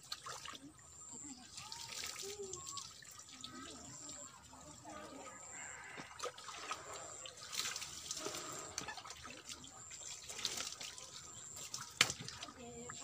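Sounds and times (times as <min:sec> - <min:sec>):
water poured and splashing: 0:00.0 - 0:13.0.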